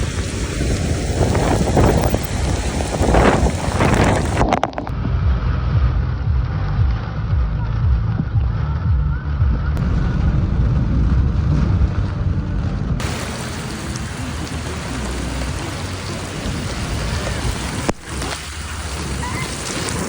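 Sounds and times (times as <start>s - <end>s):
heavy rain pouring: 0.0s - 20.0s
strong low rumble: 0.0s - 20.0s.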